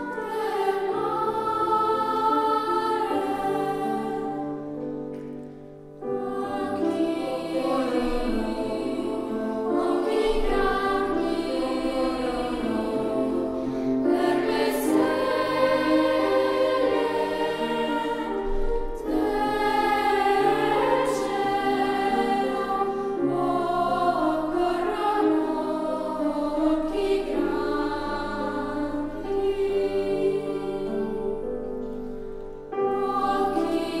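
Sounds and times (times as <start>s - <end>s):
children's choir singing: 0.0s - 34.0s.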